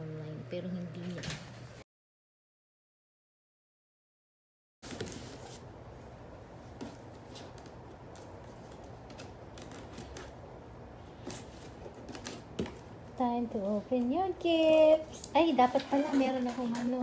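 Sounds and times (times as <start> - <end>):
low steady hum: 0.0 - 1.8, 4.9 - 17.0.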